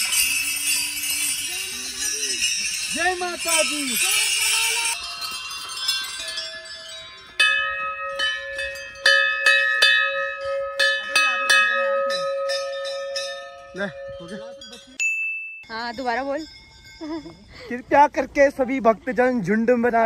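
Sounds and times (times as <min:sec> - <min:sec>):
metal temple bell ringing: 0:00.0 - 0:17.4.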